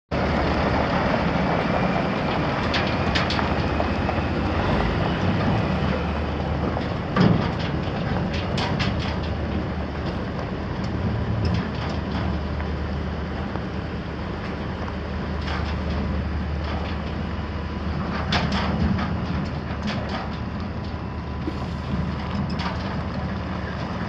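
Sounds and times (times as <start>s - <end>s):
diesel engine rumbling: 0.1s - 24.0s.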